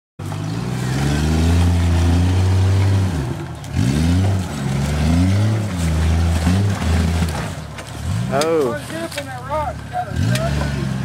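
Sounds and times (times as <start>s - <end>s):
engine revving under load: 0.2s - 8.8s, 9.6s - 11.0s.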